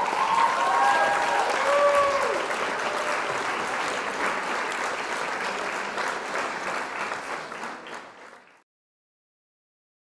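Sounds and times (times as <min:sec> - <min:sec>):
people clapping: 0:00.0 - 0:08.6.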